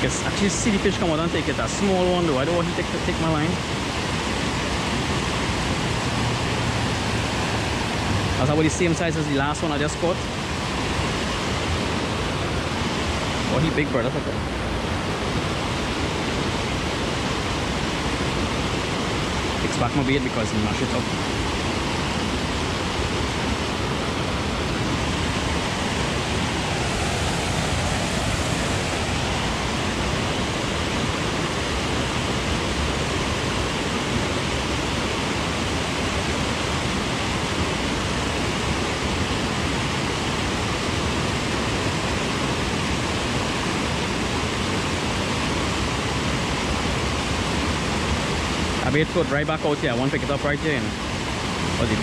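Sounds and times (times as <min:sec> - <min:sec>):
small waterfall rushing: 0:00.0 - 0:52.0.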